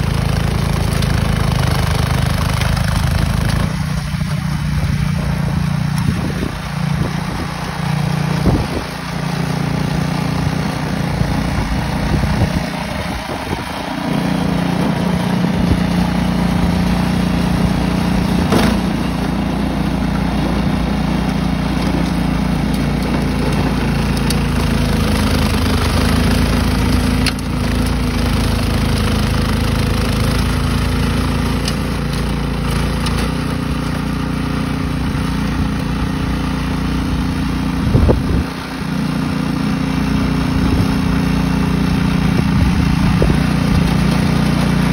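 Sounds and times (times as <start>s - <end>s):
snowblower engine running: 0.0s - 44.9s.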